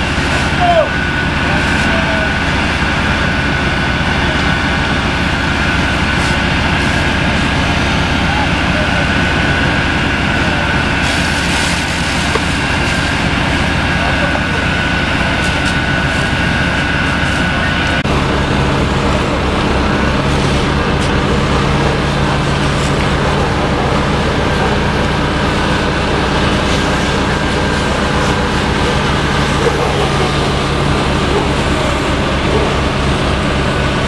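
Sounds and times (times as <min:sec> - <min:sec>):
diesel engines and pumps droning: 0:00.0 - 0:34.0.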